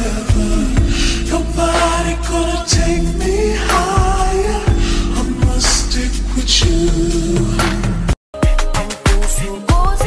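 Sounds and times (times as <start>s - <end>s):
hip-hop music with heavy bass: 0.0s - 10.0s.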